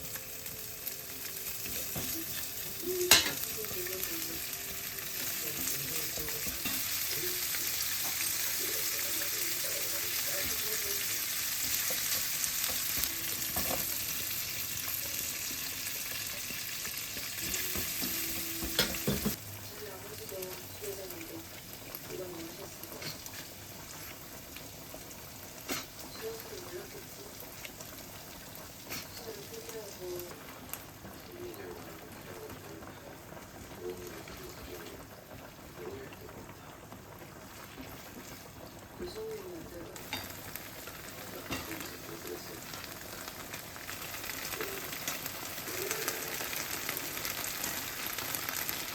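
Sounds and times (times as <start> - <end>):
food sizzling in frying pan: 0.0 - 48.9.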